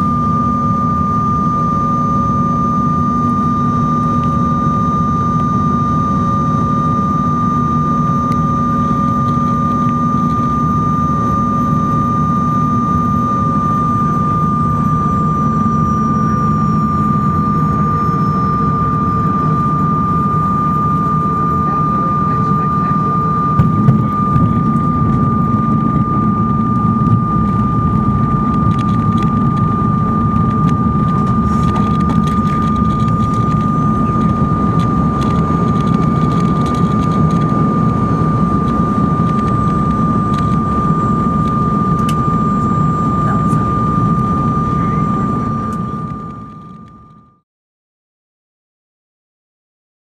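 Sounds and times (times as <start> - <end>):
constant high whine: 0.0 - 47.4
jet engine rumble: 0.0 - 47.4.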